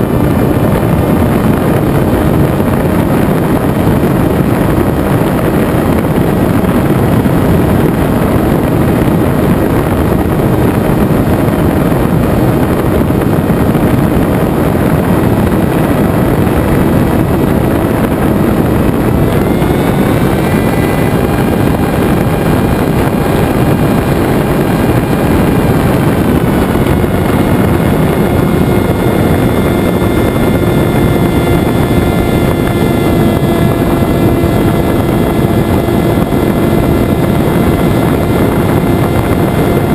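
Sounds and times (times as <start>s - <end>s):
electric motor and propeller whining: 0.0s - 39.9s
wind rush: 0.0s - 39.9s.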